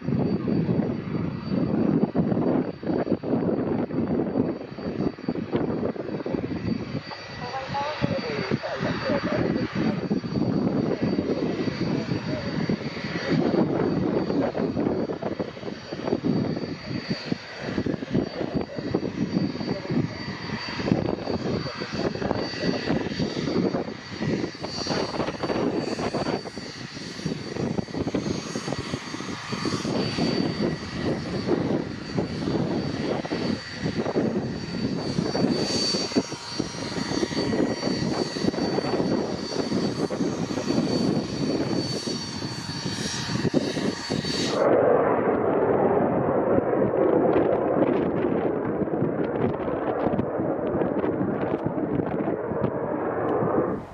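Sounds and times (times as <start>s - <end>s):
aircraft engine whine: 0.0s - 53.9s
wind buffeting microphone: 0.0s - 53.9s.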